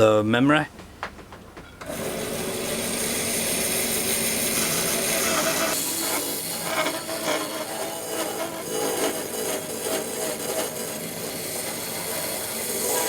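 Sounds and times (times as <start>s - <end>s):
wood grinding: 1.9s - 13.0s
wood scraping strokes: 1.9s - 13.0s.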